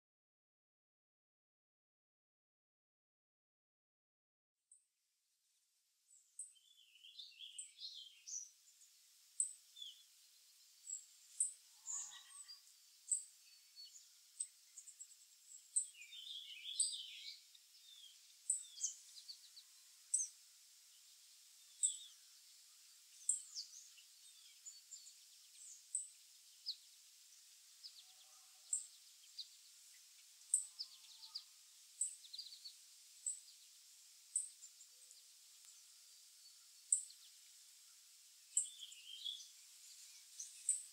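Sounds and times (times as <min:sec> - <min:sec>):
songbirds twittering: 0:06.1 - 0:40.9.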